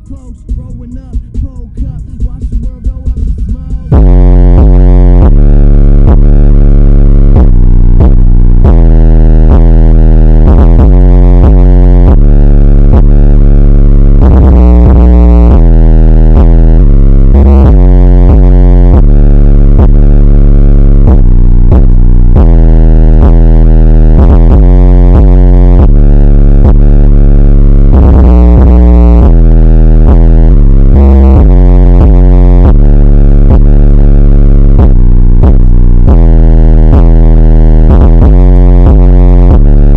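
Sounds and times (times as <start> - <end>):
bass-heavy electronic music: 0.0 - 39.9.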